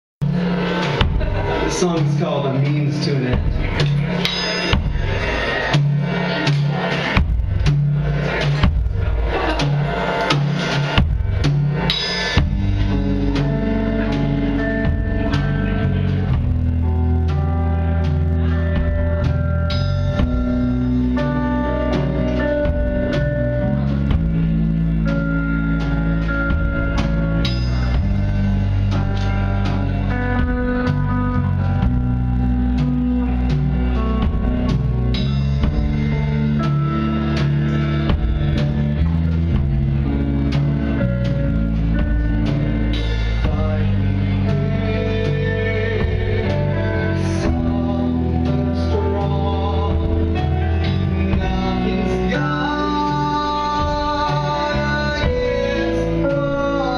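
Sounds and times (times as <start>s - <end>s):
rock band playing live: 0.2s - 56.9s.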